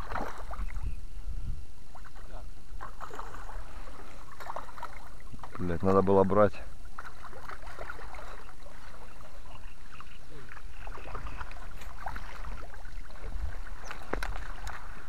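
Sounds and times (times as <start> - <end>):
fish splashing and thrashing: 0.0 - 0.8, 1.9 - 5.8, 6.8 - 15.0
water sloshing: 0.0 - 0.9, 1.9 - 15.0.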